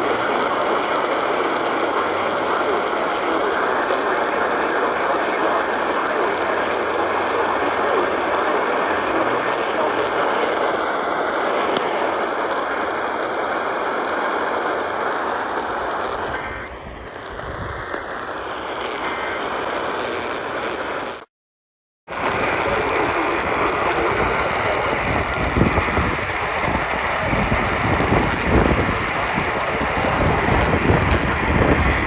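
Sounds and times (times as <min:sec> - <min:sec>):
radio static hiss: 0:00.0 - 0:21.3, 0:22.1 - 0:32.0.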